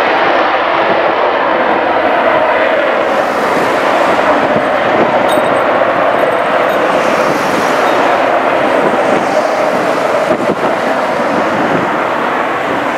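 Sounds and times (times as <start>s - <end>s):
jet engines roaring: 0.0s - 12.9s
wind buffeting microphone: 0.0s - 12.9s.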